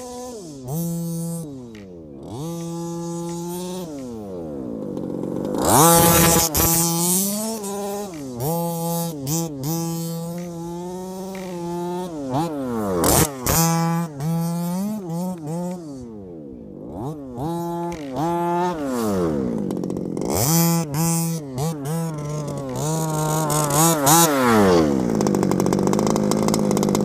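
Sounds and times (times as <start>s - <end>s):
model buggy engine revving: 0.0s - 27.0s.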